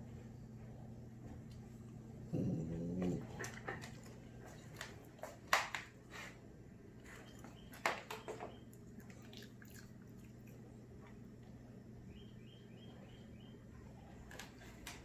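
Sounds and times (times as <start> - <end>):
steady low hum: 0.0 - 7.9, 8.5 - 15.0.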